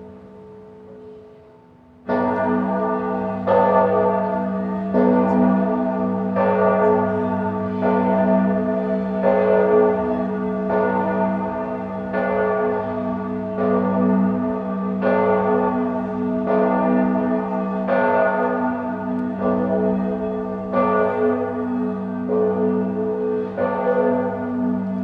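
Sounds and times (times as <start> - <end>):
church bell tolling: 0.0 - 25.0.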